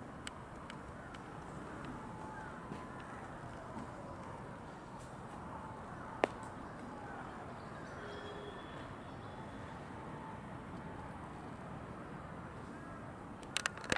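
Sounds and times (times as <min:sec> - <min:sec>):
faint distant calls: 0:00.7 - 0:13.8.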